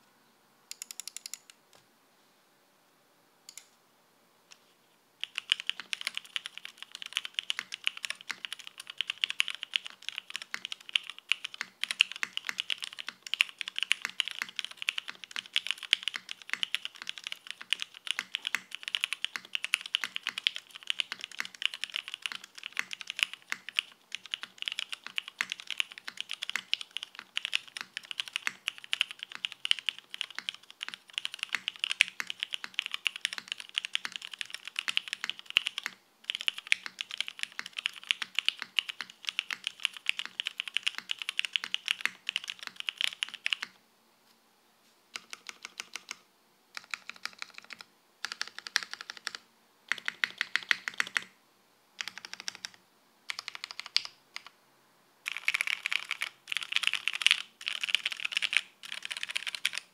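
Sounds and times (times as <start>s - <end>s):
fast typing on mechanical keyboard: 5.2s - 43.8s, 45.2s - 46.2s, 46.8s - 51.3s, 52.0s - 54.6s, 55.3s - 59.9s.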